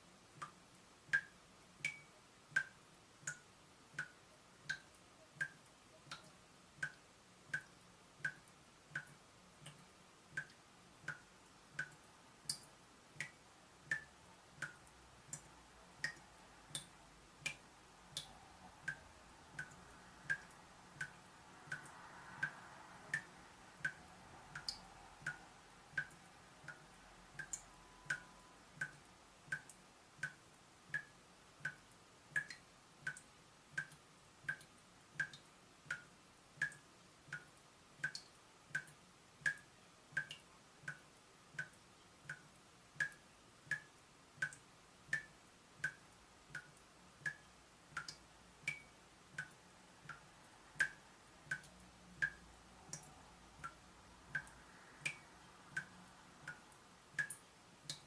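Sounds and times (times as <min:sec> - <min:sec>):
water dripping from tap: 0:00.4 - 0:58.0.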